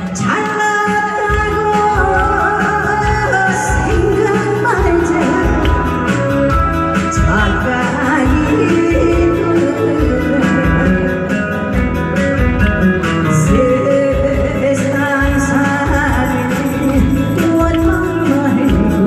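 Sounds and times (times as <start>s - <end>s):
backing track with beat and guitar: 0.0s - 19.0s
person singing live: 0.0s - 19.0s.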